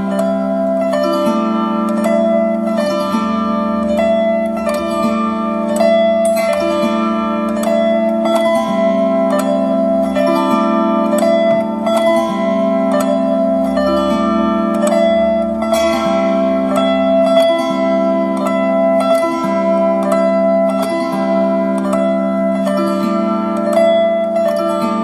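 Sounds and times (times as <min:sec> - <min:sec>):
harp playing a tune: 0:00.0 - 0:25.0.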